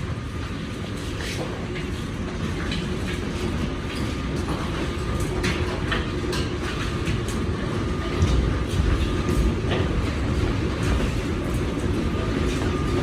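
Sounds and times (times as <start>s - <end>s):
heavy machinery rumbling: 0.0s - 13.0s
metallic clanks and knocks: 1.4s - 13.0s.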